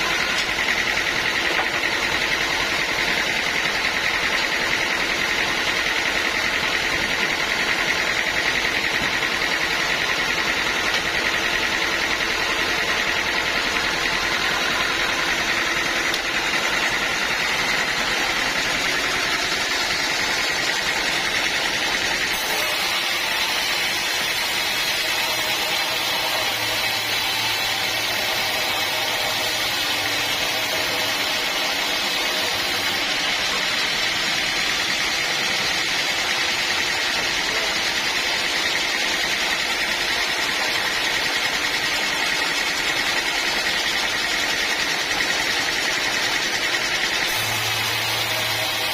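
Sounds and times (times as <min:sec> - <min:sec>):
sawmill machinery din: 0:00.0 - 0:48.9.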